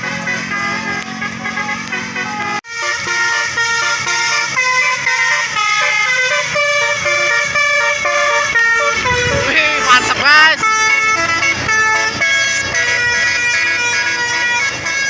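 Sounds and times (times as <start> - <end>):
multi-tone bus air horn tune: 0.0 - 15.0.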